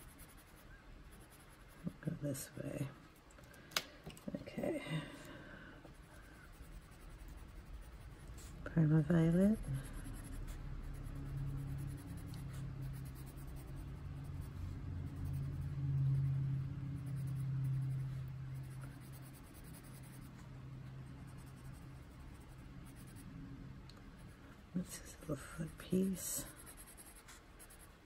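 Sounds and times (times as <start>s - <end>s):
pencil scratching on paper: 0.0s - 2.7s, 5.9s - 23.3s, 24.1s - 28.0s
low hum: 0.0s - 28.0s.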